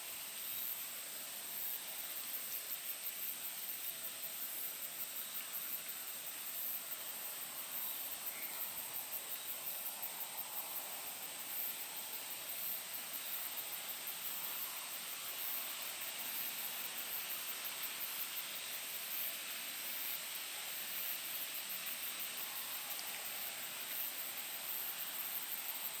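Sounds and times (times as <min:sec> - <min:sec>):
insects chirring: 0:00.1 - 0:26.0.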